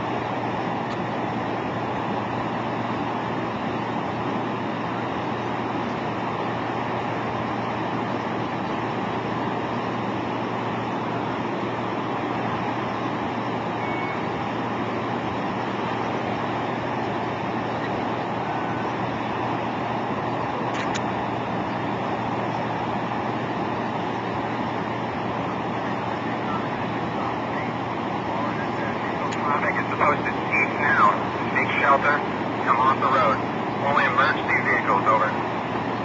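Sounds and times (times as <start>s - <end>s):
vehicle engine hum: 0.0s - 36.0s.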